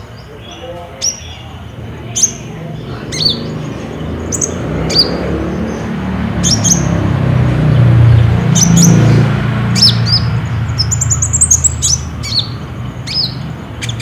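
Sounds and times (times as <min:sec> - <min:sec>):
bird chip calls: 0:00.0 - 0:14.0.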